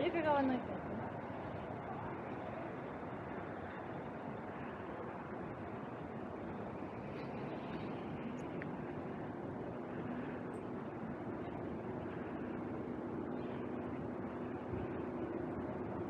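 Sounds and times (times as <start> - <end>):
low steady hum: 0.0 - 16.0
rush of street noise: 0.0 - 16.0.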